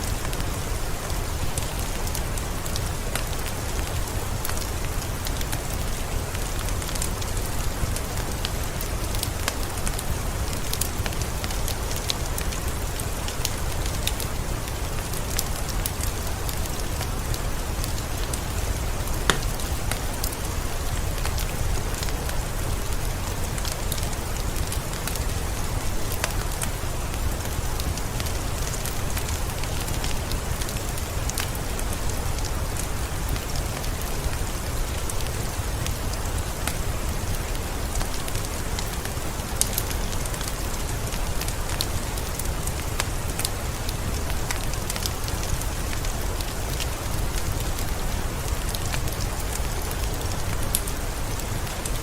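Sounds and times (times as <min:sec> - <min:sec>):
heavy rain in a forest: 0:00.0 - 0:52.0.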